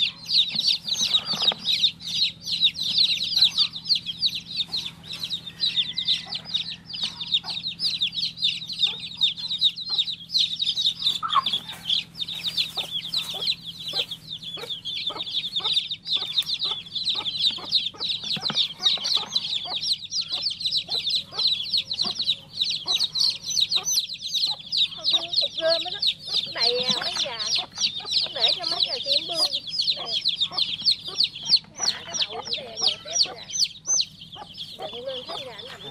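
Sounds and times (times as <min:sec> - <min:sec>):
baby chicks chirping: 0:00.0 - 0:35.9.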